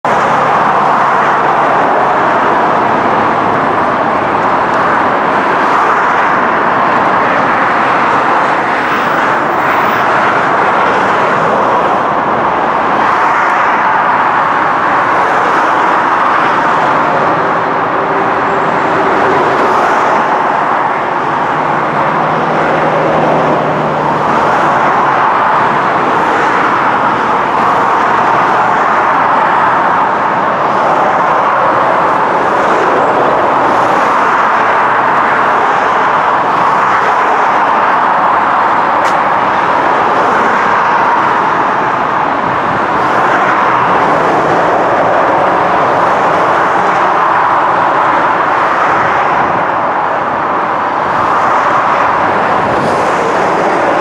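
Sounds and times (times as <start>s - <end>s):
motorway traffic passing: 0.0s - 54.0s.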